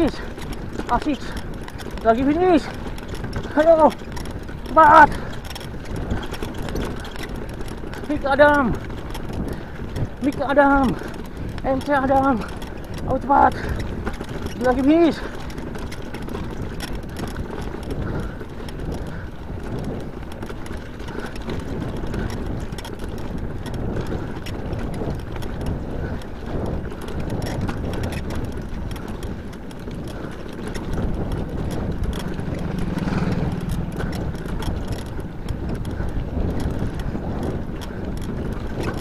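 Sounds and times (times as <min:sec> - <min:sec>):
bike rattling: 0:00.0 - 0:39.0.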